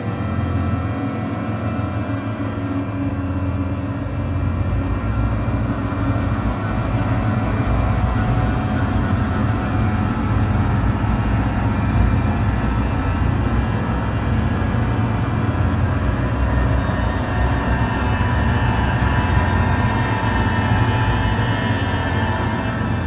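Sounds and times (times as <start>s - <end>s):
dark ambient drone music: 0.0s - 23.0s.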